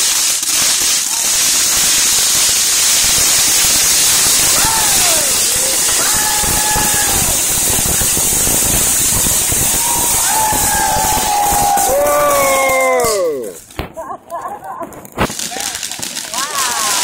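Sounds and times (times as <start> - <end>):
fireworks fountain hissing: 0.0 - 17.0.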